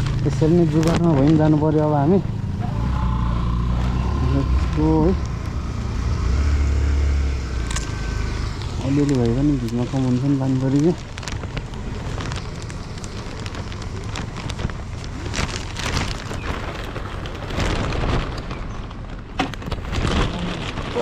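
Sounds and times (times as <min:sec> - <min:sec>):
low rumble: 0:00.0 - 0:21.0
raindrops crackling on microphone: 0:00.0 - 0:21.0.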